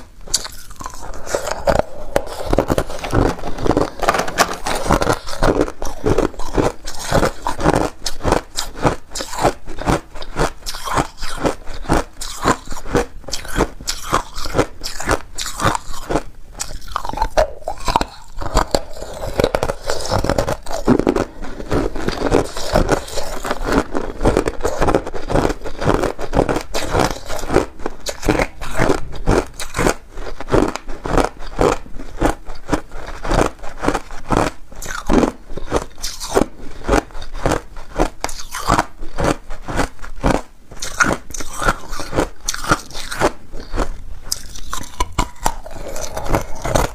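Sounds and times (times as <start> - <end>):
person crunching ice: 0.0 - 46.9.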